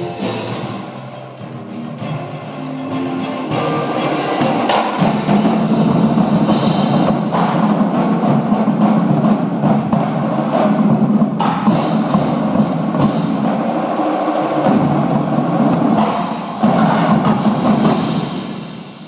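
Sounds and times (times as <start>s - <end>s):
drumline playing drums and percussion: 0.0s - 19.0s.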